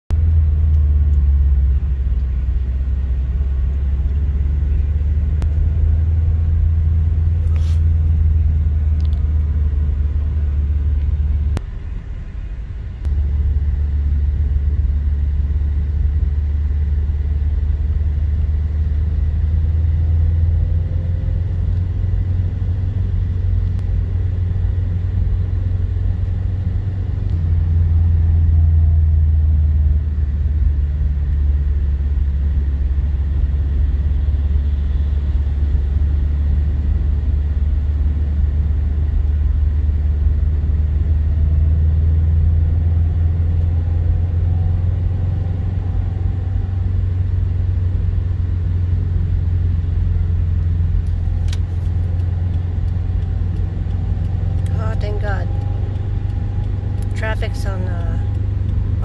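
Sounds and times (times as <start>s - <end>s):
car cabin road rumble: 0.1s - 59.0s.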